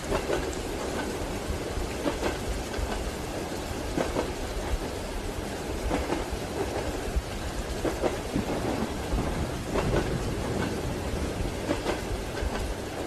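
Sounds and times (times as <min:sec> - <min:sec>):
steady rain hiss: 0:00.0 - 0:13.0
train wheels clickety-clack: 0:00.0 - 0:13.0.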